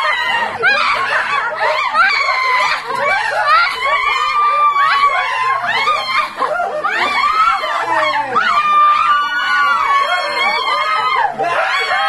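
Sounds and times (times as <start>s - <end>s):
women laughing: 0.0s - 12.0s
women screaming and squealing: 0.0s - 12.0s.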